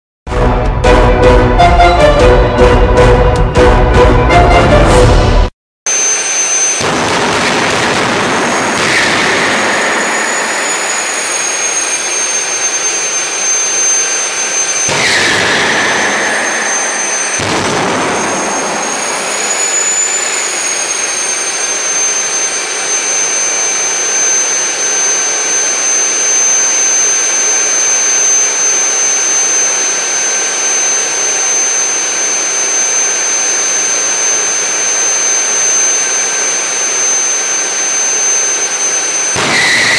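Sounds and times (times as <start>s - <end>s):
turbine whine: 0.3s - 39.9s
loud exhaust rush: 0.4s - 39.9s.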